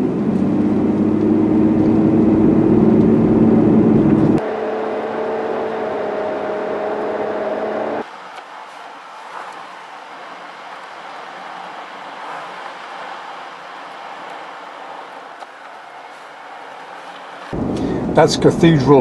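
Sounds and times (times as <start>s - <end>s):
car engine drone: 0.0s - 19.0s
road noise: 0.0s - 19.0s.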